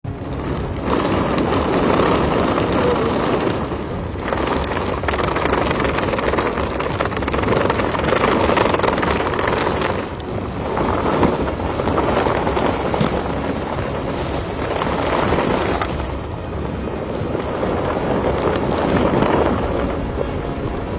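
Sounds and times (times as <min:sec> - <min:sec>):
gusting wind: 0:00.0 - 0:20.9
heavy rain: 0:00.0 - 0:20.9.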